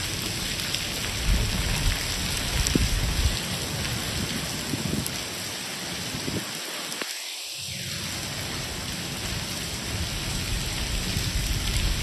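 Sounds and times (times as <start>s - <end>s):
heavy rain on stone paving: 0.0s - 12.0s.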